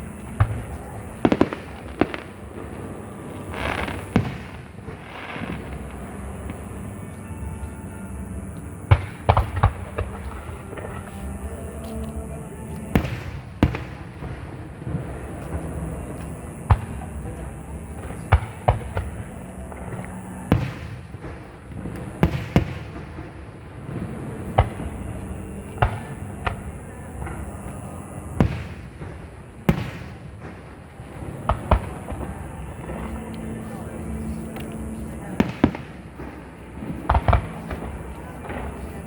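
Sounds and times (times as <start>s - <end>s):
fireworks bangs with echo: 0.0s - 11.9s, 12.7s - 39.0s.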